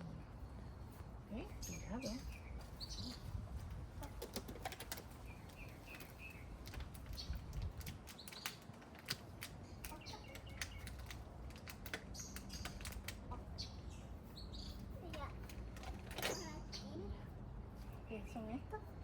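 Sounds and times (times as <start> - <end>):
small birds chirping: 0.0 - 19.0
garden work clicks and scrapes: 0.5 - 17.1.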